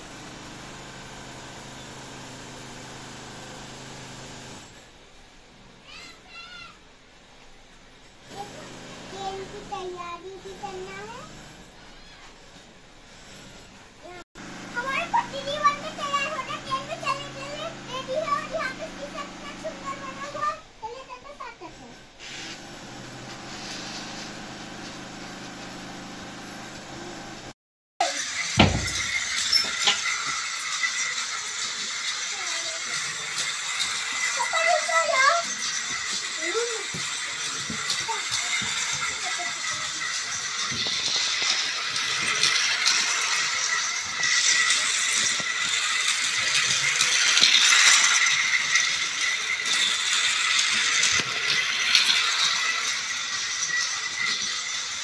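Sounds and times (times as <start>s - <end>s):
toy train motor hum: 0.0s - 6.8s, 8.2s - 55.0s
toy train whirring rattle: 5.8s - 6.8s, 8.0s - 22.6s, 23.3s - 25.7s, 28.0s - 55.0s.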